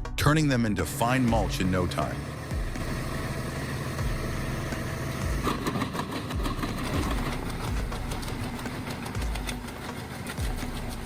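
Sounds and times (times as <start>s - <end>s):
wood chipper engine running: 0.8s - 11.0s.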